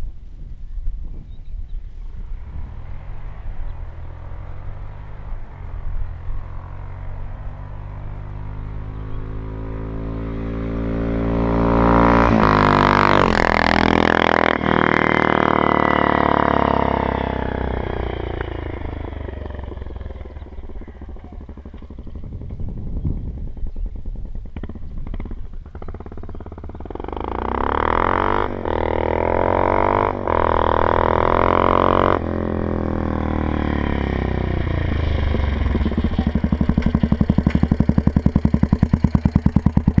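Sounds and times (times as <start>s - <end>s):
motorcycle engine revving: 2.1s - 40.0s.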